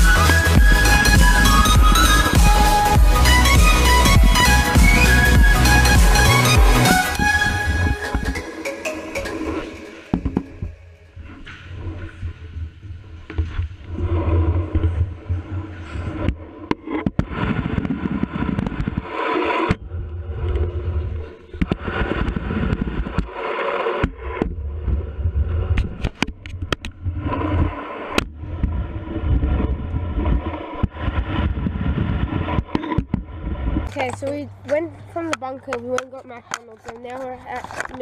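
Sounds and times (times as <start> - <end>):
skateboard wheels rumbling on ramps: 0.0 - 8.4, 10.2 - 36.0.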